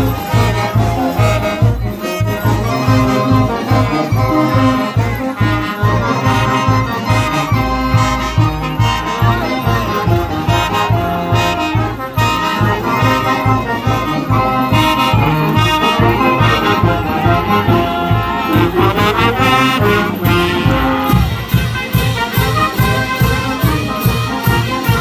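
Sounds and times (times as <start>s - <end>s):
brass band playing dance tune: 0.0s - 25.0s.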